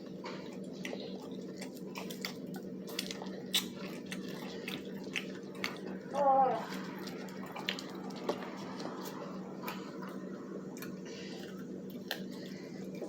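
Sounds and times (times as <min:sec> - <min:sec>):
crunching while chewing: 0:00.0 - 0:13.0
steady low hum: 0:00.0 - 0:13.0.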